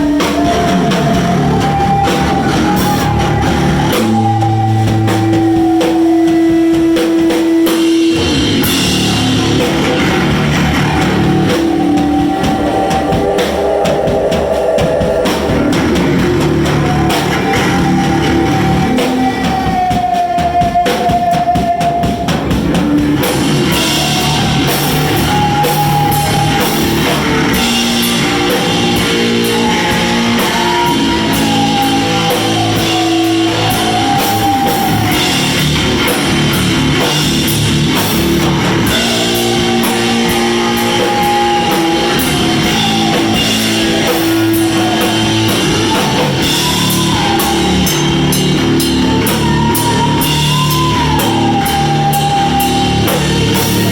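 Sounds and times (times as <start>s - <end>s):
bending lead guitar notes: 0.0s - 20.0s, 22.4s - 53.9s
live rock band playing: 0.0s - 53.9s.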